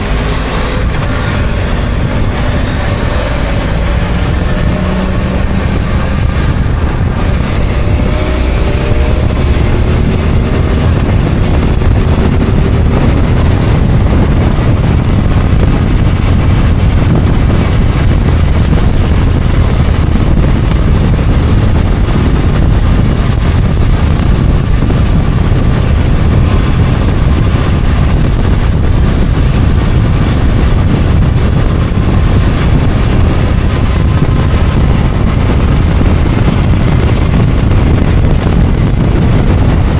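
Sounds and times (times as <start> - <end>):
motorcycle engine accelerating: 0.0 - 39.9
wind and road noise rumble: 0.0 - 39.9.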